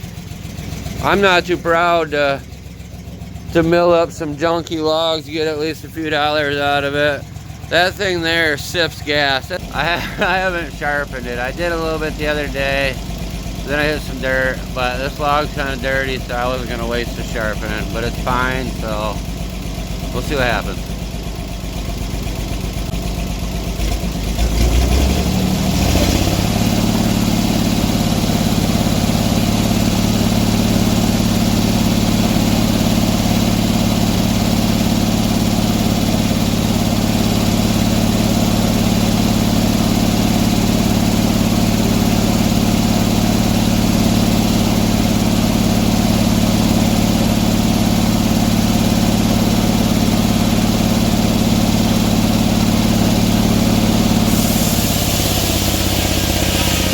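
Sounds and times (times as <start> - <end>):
sawmill gasoline engine revving: 0.0 - 56.9.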